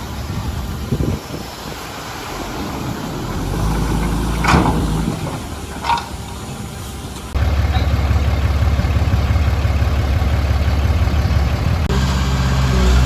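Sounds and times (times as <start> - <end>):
heavy diesel engine at low revs: 0.0 - 13.0.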